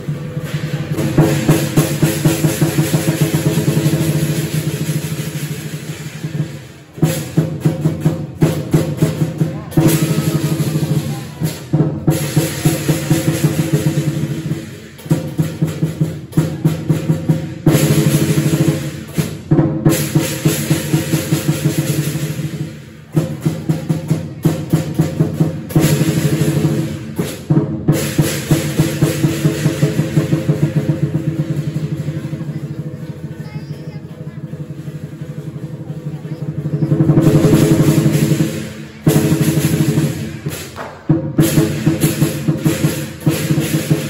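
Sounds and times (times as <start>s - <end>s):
cymbals clashing: 0.0s - 44.0s
drum beaten in fast strokes: 0.0s - 44.0s.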